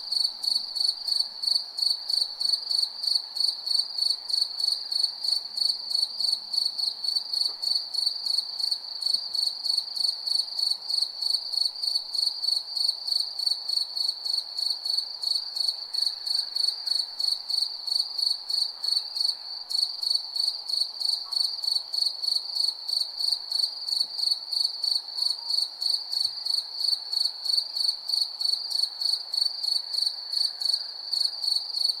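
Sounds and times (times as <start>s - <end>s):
faint background hiss: 0.0s - 32.0s
cricket chirping: 0.1s - 32.0s.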